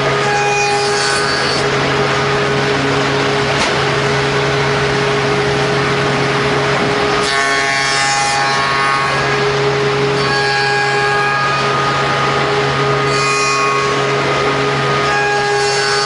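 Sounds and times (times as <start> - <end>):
high steady machine tones: 0.0 - 16.0
machine spindle humming: 0.0 - 16.0.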